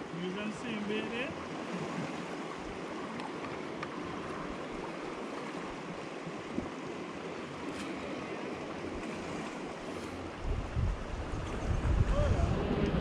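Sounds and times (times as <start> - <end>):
sea water lapping on rocks: 0.7 - 12.1.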